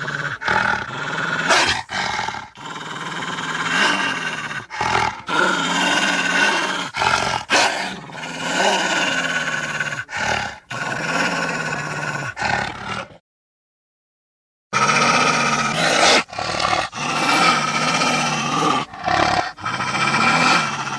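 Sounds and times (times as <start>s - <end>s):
creature growls and roars: 0.0s - 13.2s, 14.8s - 20.9s.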